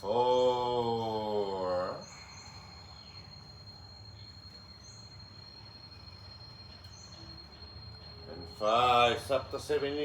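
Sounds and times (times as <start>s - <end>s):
high-pitched whine: 0.0s - 10.0s
steady low hum: 0.0s - 10.0s.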